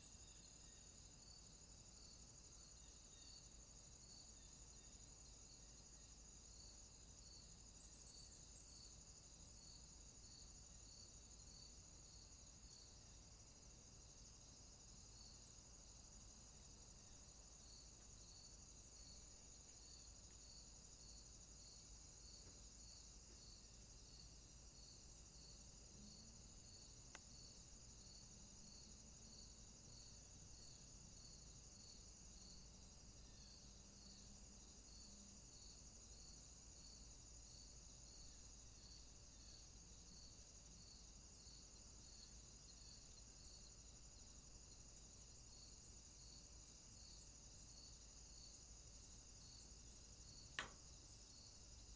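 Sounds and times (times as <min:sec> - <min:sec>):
insect chirping: 0:00.0 - 0:51.9.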